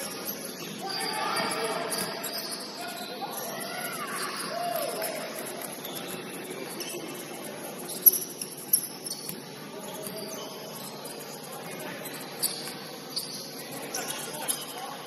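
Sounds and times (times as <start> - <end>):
hubbub of large hall: 0.0 - 15.0
shoes squeaking on gym floor: 0.0 - 15.0.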